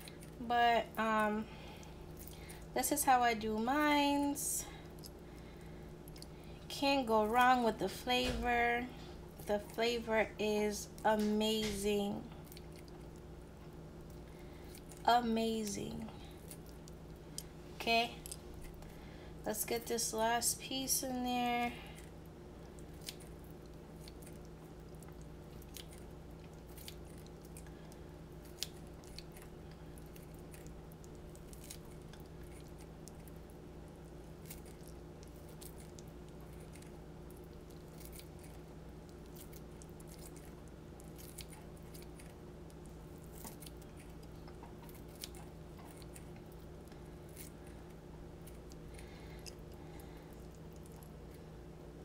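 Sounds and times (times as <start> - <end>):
low hum: 0.0 - 52.0.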